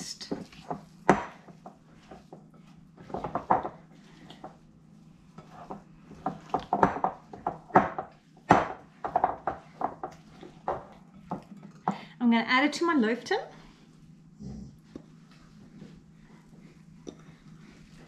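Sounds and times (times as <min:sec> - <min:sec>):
hands mixing dough: 0:00.0 - 0:18.0.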